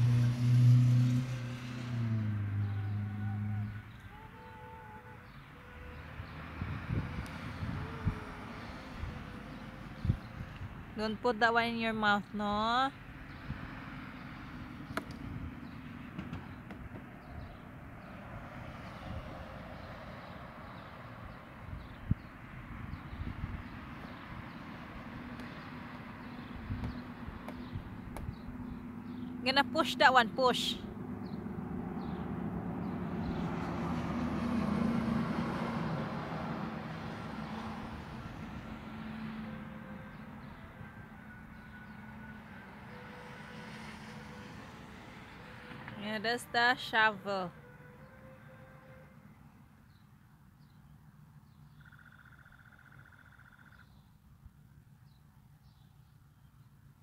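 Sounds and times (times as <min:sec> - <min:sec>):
passing vehicle engine: 0:00.0 - 0:11.0, 0:12.9 - 0:49.8.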